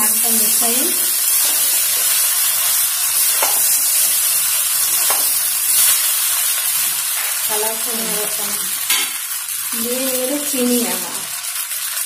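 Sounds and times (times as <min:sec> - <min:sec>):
frying sizzle: 0:00.0 - 0:12.0.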